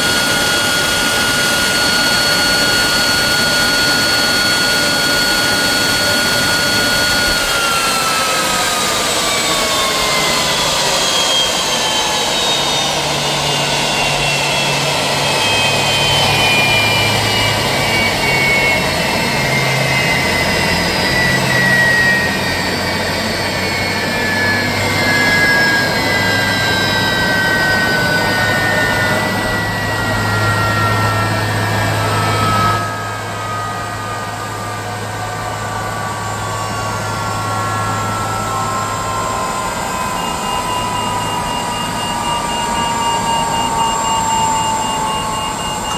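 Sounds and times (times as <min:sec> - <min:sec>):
jet engines winding down: 0:00.0 - 0:45.9.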